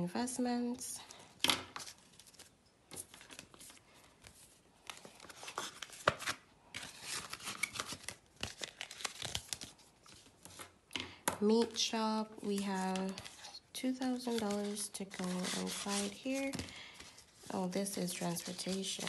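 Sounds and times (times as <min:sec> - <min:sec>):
paper rustling and crinkling: 0:01.6 - 0:10.8, 0:12.2 - 0:19.0.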